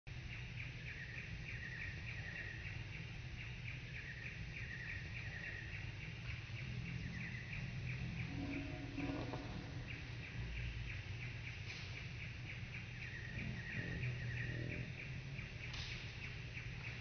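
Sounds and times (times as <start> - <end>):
steady low rumble: 0.1 - 17.0.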